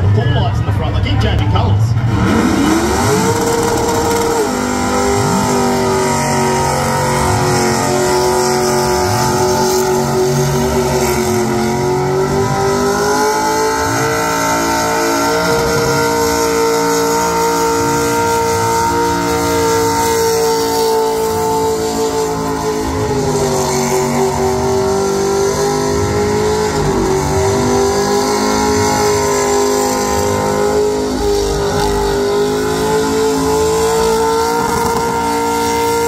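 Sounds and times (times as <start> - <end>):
car engine at high revs: 0.0 - 36.0.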